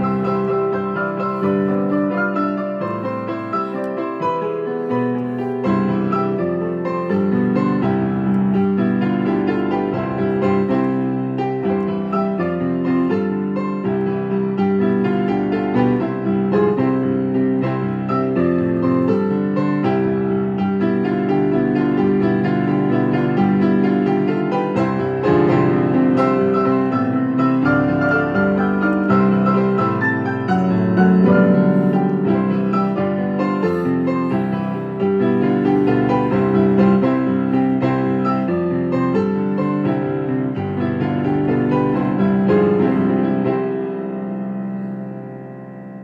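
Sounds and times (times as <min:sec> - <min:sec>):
piano tune: 0:00.0 - 0:46.0.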